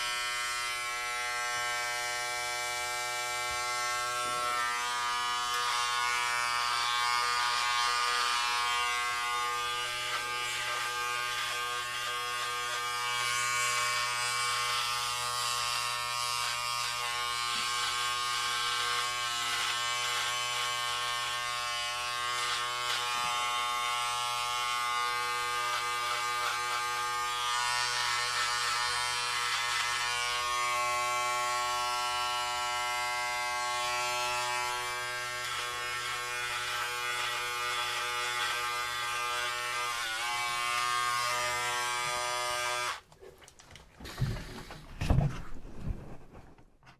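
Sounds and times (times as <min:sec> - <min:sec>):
electric hair clippers buzzing: 0:00.0 - 0:43.0.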